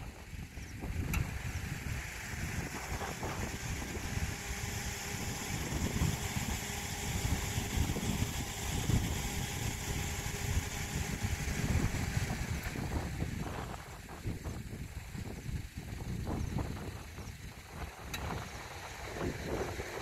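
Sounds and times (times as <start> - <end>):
vehicle road and engine noise: 0.0 - 20.0
wind buffeting microphone: 0.0 - 20.0.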